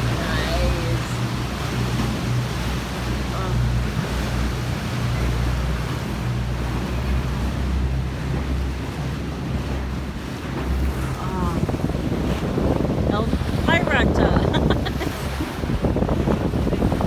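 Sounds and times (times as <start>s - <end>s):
motorboat engine droning: 0.0s - 17.0s
water rushing along hull: 0.0s - 17.0s
wind buffeting microphone: 0.0s - 17.0s.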